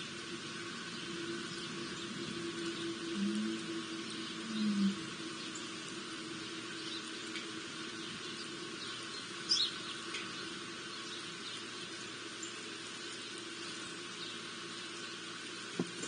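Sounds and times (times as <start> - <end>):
steady low hum: 0.0 - 16.0
small birds chirping: 0.7 - 15.9.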